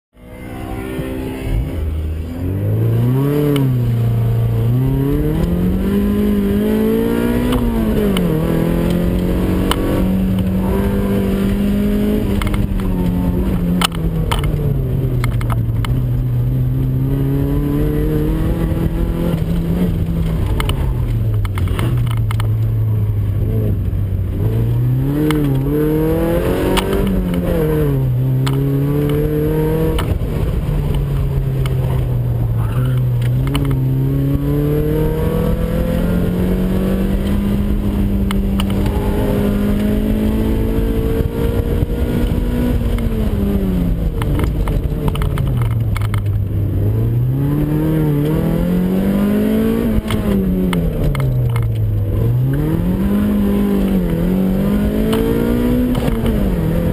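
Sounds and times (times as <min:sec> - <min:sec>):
car engine revving: 0:00.2 - 0:56.9.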